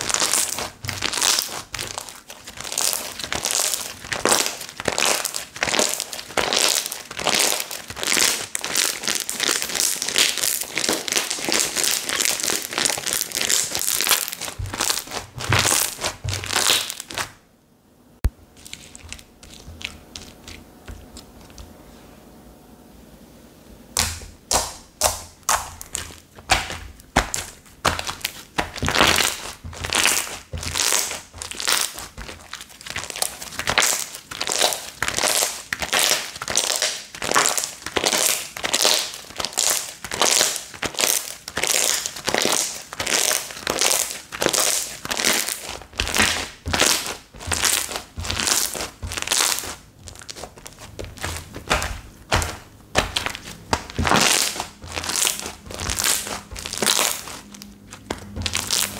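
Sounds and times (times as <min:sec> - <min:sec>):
slime squished by hand: 0:00.0 - 0:17.4, 0:24.0 - 0:58.9.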